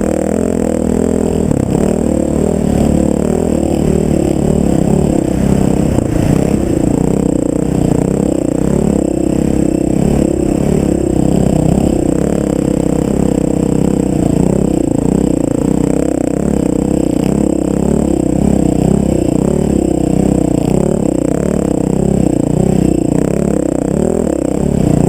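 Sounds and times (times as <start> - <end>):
off-road vehicle engine revving: 0.0 - 25.0.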